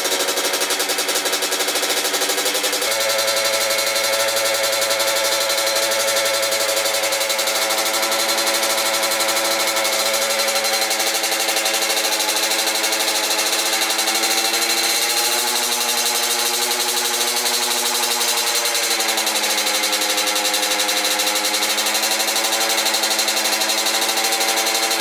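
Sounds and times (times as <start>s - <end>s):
two-stroke engine idling: 0.0s - 25.0s.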